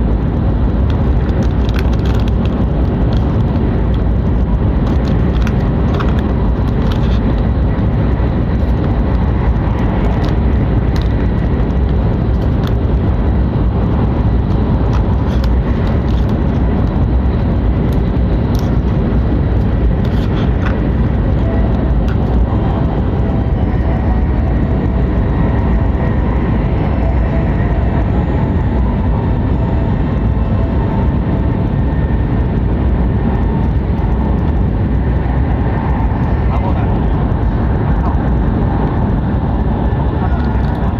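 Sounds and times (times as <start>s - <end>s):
faint steady whine: 0.0s - 40.9s
train wheels rumbling: 0.0s - 40.9s.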